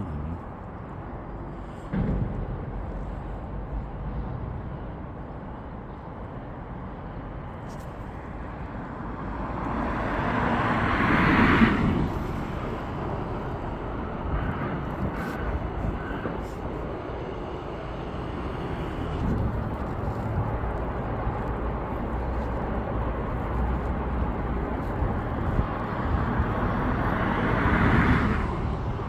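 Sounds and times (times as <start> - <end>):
outdoor traffic noise: 0.0 - 29.0.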